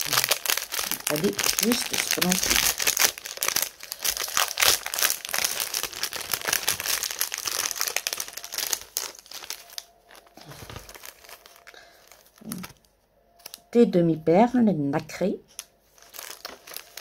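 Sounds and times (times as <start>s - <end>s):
plastic packaging crinkling: 0.0s - 13.6s, 15.5s - 17.0s.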